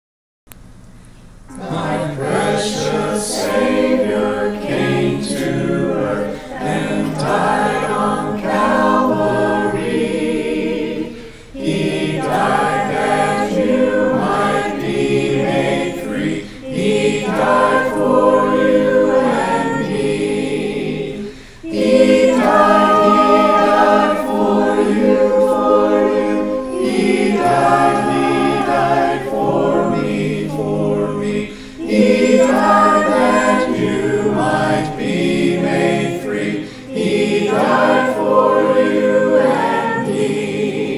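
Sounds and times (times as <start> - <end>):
choir singing a hymn: 1.5 - 40.9.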